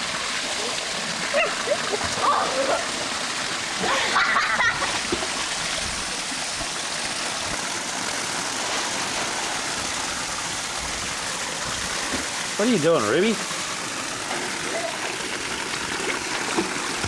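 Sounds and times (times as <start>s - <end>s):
water pouring into pool: 0.0s - 17.0s.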